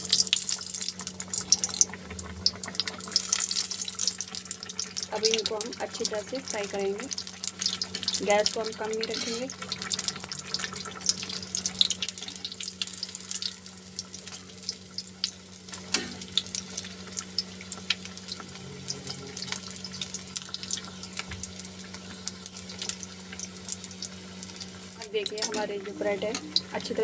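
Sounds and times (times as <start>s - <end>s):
deep-frying sizzle: 0.0s - 27.0s.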